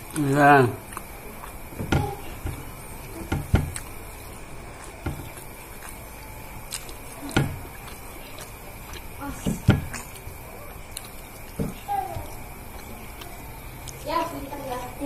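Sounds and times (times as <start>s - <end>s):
person chewing with mouth smacks: 0.0s - 15.0s.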